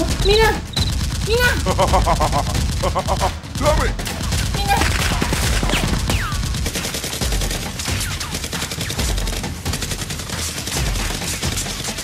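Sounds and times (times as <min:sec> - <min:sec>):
rapid automatic gunfire: 0:00.0 - 0:12.0.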